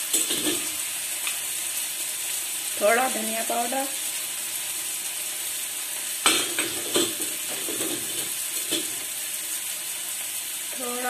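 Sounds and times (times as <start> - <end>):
onions and tomatoes frying: 0.0 - 11.0.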